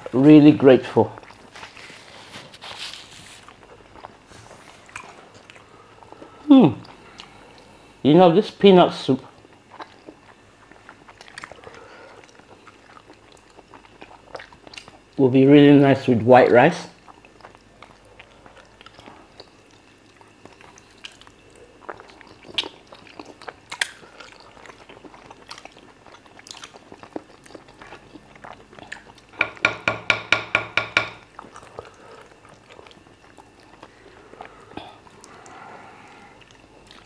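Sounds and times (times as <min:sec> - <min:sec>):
person chewing and swallowing: 0:01.1 - 0:02.1, 0:03.4 - 0:07.8, 0:09.2 - 0:15.2, 0:17.0 - 0:29.6, 0:31.2 - 0:37.0.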